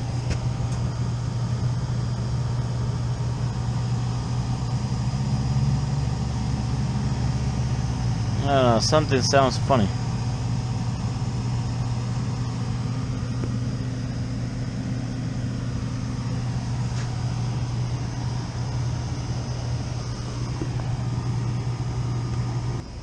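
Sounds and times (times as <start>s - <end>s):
air conditioning unit low hum: 0.0s - 23.0s
fan noise: 0.0s - 23.0s
higher hum: 0.0s - 23.0s.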